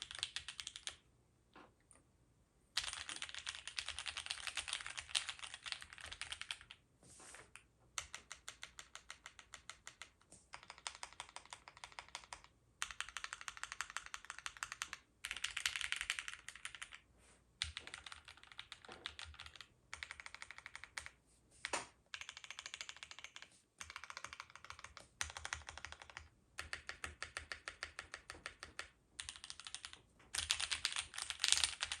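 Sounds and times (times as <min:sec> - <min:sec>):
mechanical keyboard typing: 0:00.0 - 0:01.0, 0:02.8 - 0:06.8, 0:07.9 - 0:17.0, 0:17.6 - 0:32.0.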